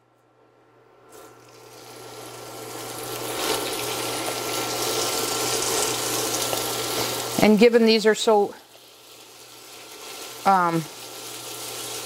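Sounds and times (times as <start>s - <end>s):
chicken sizzling in hot oil: 1.1s - 12.0s.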